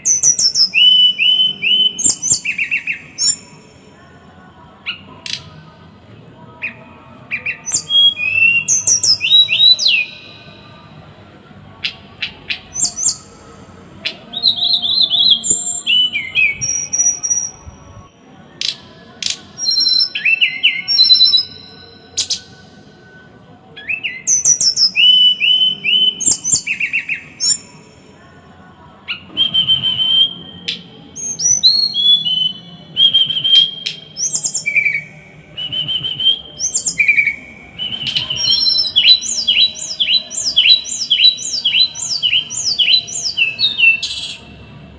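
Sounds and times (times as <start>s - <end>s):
songbird chirping and trilling: 0.0s - 44.9s.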